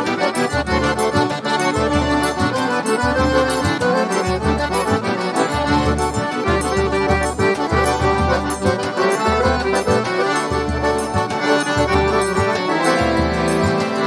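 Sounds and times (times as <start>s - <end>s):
accordions playing in chords: 0.0s - 14.0s.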